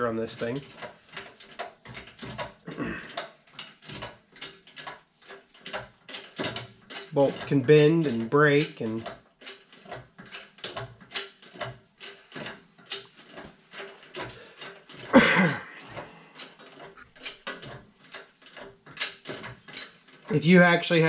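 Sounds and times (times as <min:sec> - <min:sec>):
metallic clicks and clanks: 0:00.0 - 0:21.0
press creaking: 0:00.0 - 0:21.0.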